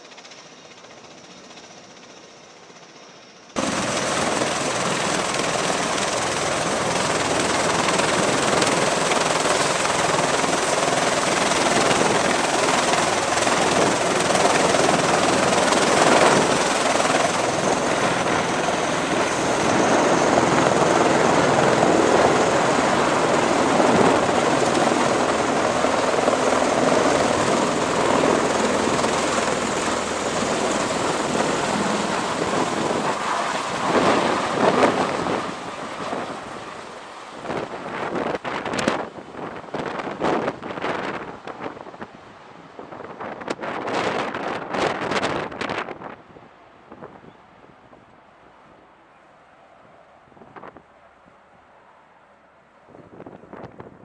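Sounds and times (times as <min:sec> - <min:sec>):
aircraft engines and rotors: 0:00.0 - 0:54.0.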